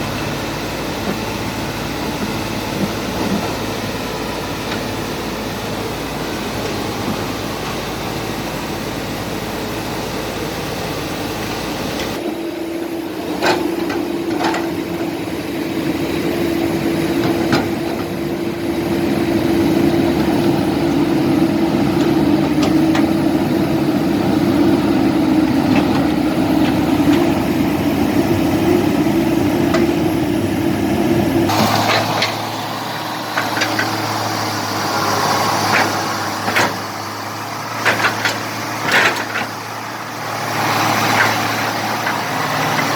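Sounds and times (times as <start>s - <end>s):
heavy machinery diesel engines: 0.0s - 42.9s.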